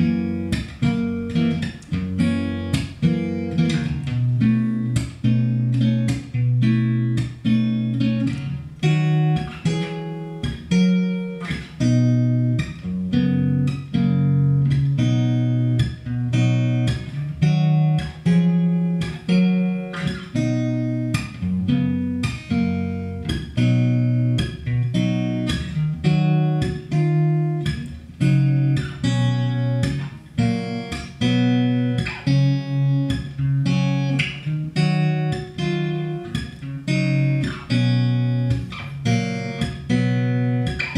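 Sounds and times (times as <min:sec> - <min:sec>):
fingerpicked acoustic guitar: 0:00.0 - 0:40.9.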